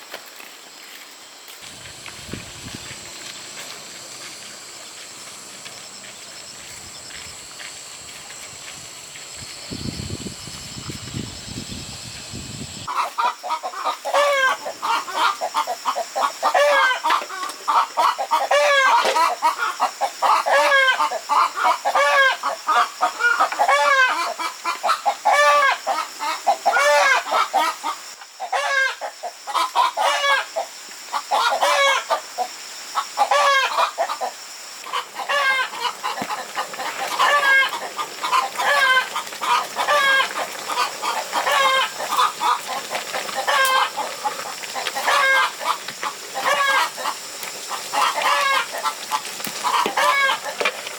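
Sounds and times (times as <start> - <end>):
chickens clucking: 1.6 - 26.0, 26.6 - 32.2, 33.0 - 50.9.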